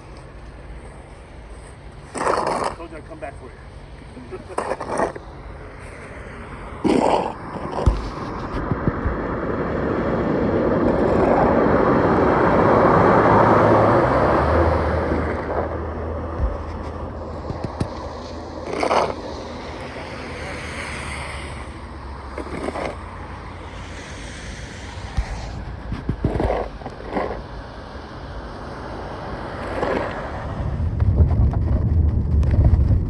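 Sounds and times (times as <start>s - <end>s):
low steady engine hum: 0.0s - 33.0s
vehicle passing: 1.5s - 33.0s.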